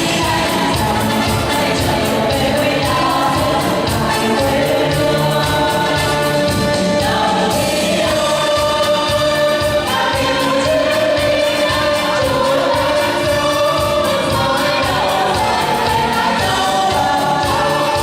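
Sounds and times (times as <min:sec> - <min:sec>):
choir singing a march: 0:00.0 - 0:18.0
instrumental accompaniment with beat: 0:00.0 - 0:18.0.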